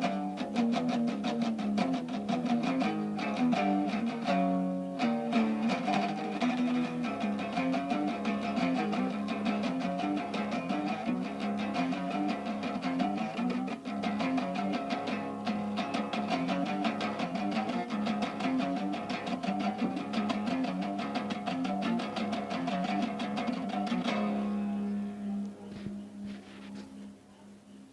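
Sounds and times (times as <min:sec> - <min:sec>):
guitar picking fast line: 0:00.0 - 0:26.4.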